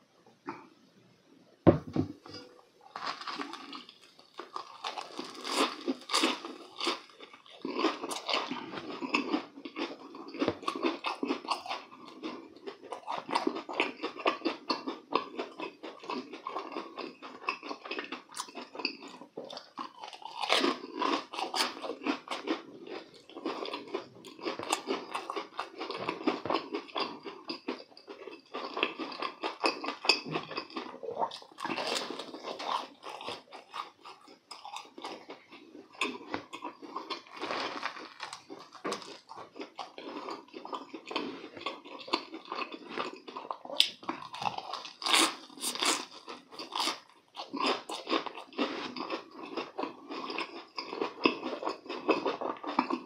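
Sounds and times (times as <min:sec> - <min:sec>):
crispy food crunching while chewing: 0:02.3 - 0:53.0.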